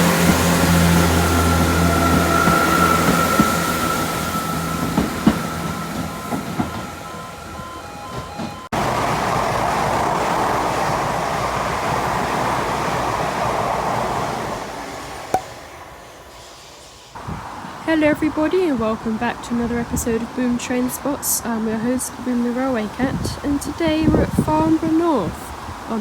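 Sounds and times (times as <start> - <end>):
rush of wheel and rail noise: 0.0 - 26.0
train whine and hum: 0.0 - 26.0.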